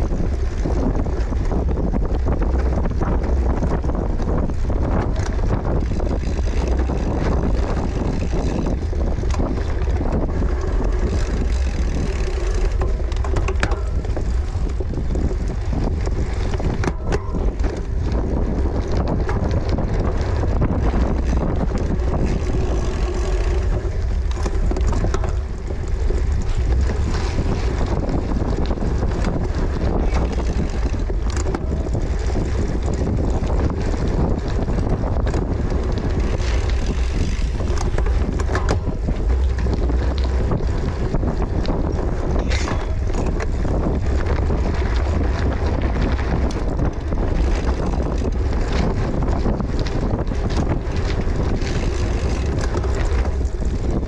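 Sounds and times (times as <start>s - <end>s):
bike rattles and clicks: 0.0s - 54.0s
low rumble: 0.0s - 54.0s
wind buffeting microphone: 0.0s - 54.0s.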